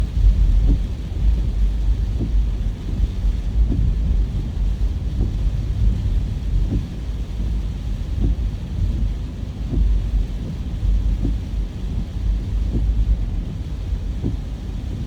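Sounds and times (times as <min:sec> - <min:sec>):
soft regular beat: 0:00.0 - 0:15.0
vehicle and wind rumble: 0:00.0 - 0:15.0.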